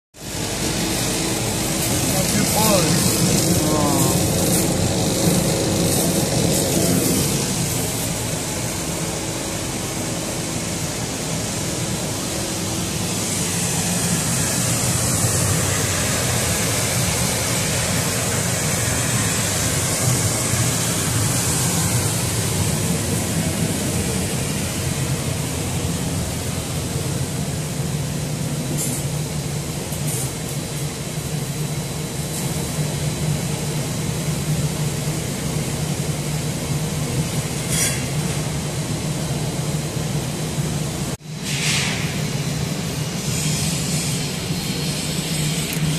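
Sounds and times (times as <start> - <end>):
machine low hum: 0.2 - 37.6
fan air hiss: 0.2 - 45.9.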